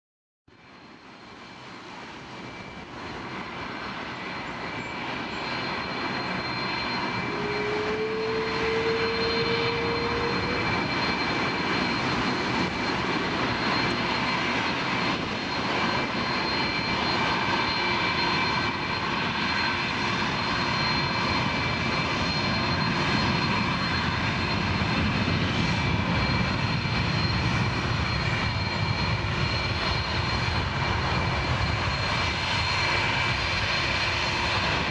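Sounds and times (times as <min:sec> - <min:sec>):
jet engine whine: 0:00.5 - 0:34.9.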